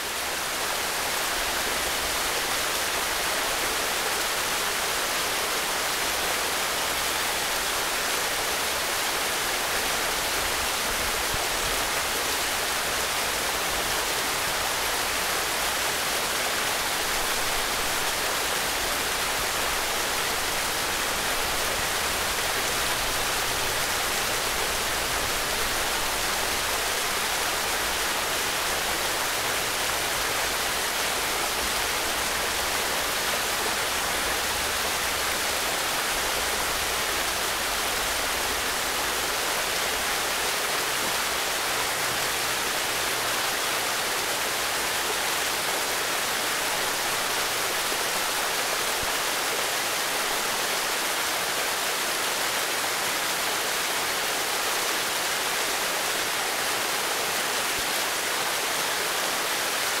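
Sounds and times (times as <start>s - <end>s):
waterfall rushing and splashing: 0.0s - 60.0s.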